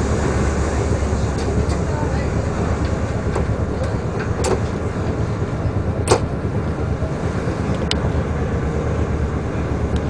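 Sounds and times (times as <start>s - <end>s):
railcar engine and wheels rumbling: 0.0s - 10.0s.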